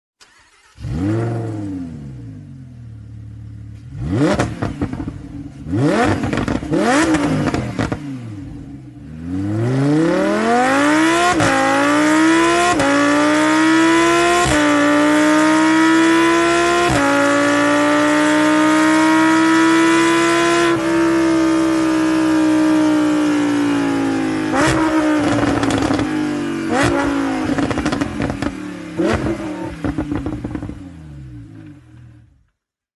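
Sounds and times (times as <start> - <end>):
sports car engine revving: 0.3 - 32.3.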